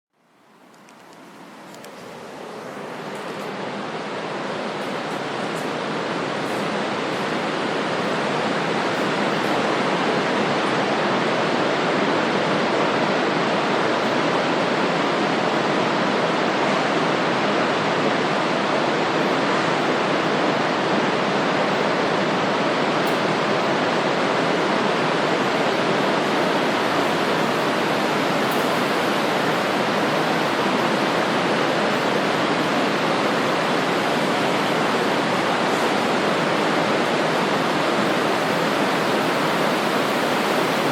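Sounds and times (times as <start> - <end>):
river water rushing: 0.3 - 40.9.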